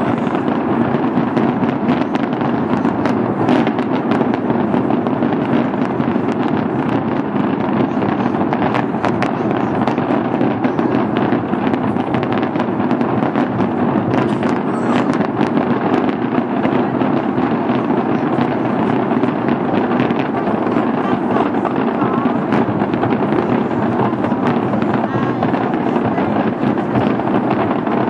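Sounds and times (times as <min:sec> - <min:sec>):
fireworks bursts and crackles: 0:00.0 - 0:28.0.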